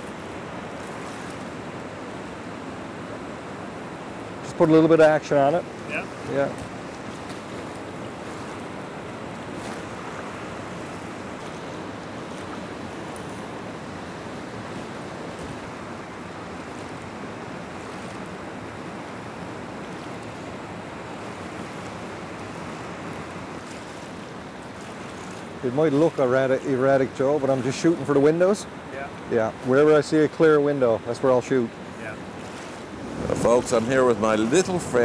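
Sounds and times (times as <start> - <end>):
river rapids rushing: 0.0 - 35.0.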